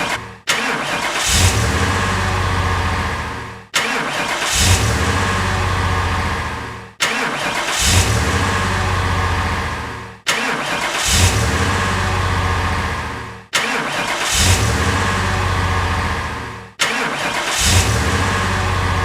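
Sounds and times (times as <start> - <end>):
car engine starting: 0.0 - 19.0.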